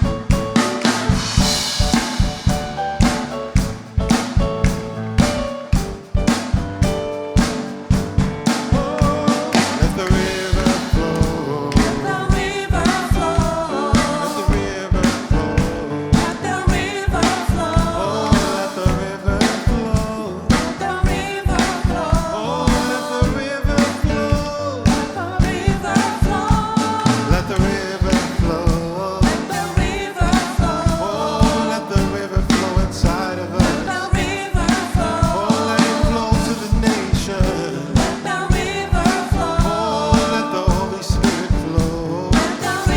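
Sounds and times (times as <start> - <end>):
drum kit beat: 0.0 - 42.9
gospel band playing: 0.0 - 42.9
people singing: 0.0 - 42.9.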